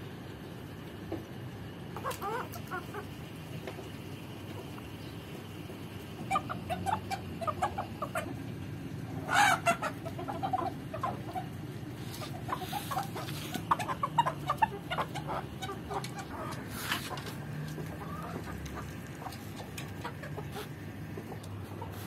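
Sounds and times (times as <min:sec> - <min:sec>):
chickens clucking: 0:00.7 - 0:22.0.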